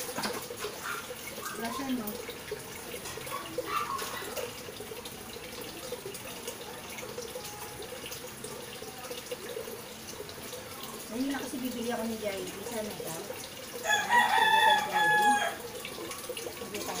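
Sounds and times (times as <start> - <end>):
tap water running: 0.0 - 17.0.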